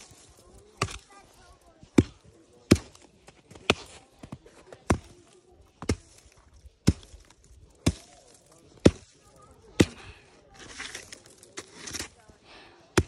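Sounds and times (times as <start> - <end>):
wooden stick striking packed snow: 0.0 - 12.3.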